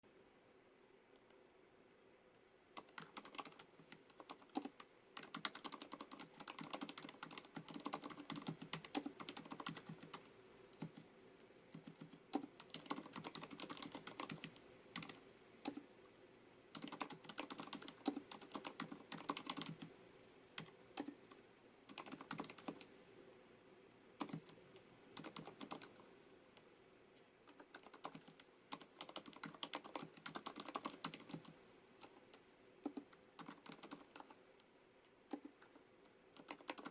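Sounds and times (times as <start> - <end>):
soft mechanical keyboard typing: 2.7 - 15.9, 16.7 - 20.0, 20.6 - 23.0, 24.2 - 36.9.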